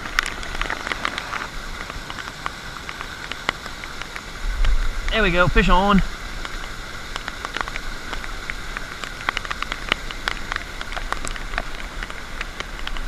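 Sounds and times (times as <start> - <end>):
rain drops ticking: 0.0 - 13.0
steady rain hiss: 0.0 - 13.0.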